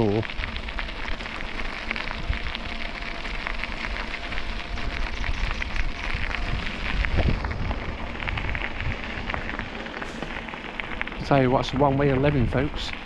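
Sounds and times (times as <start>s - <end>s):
bicycle tyres rolling on rough path: 0.0s - 13.0s
wind rumbling on microphone: 0.0s - 13.0s.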